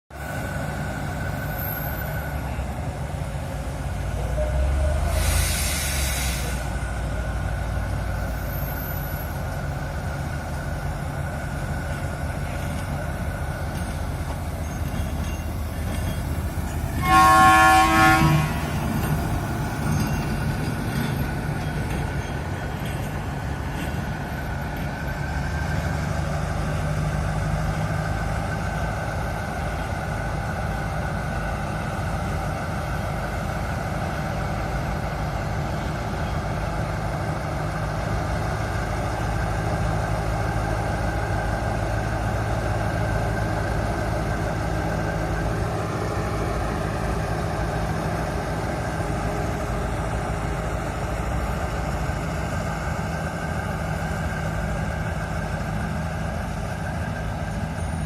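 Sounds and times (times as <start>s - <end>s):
diesel locomotive engine hum: 0.1s - 58.0s.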